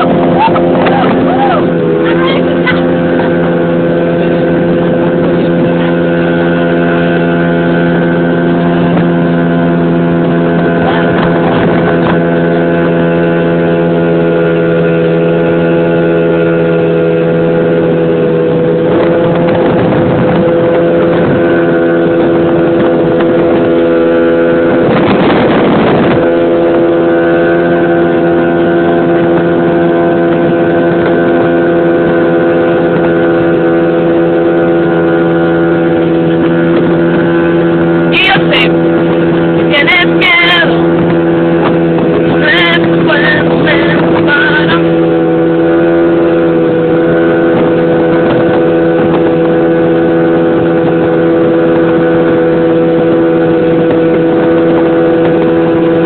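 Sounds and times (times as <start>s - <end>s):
motorboat engine droning: 0.0s - 56.0s.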